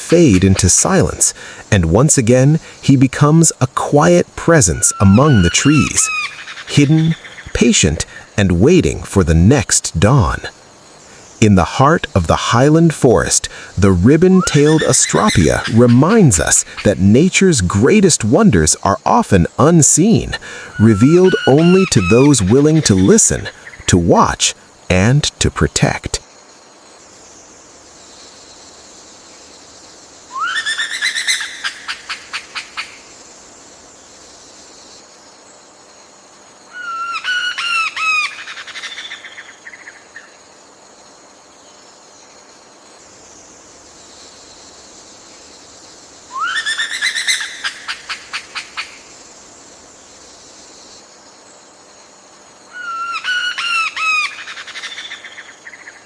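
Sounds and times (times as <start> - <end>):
insects hissing: 0.0 - 56.0.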